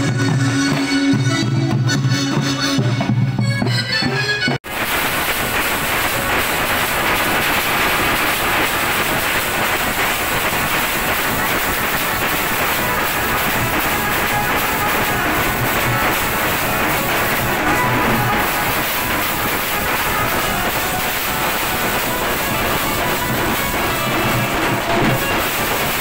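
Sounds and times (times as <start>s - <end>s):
drums: 0.0s - 26.0s.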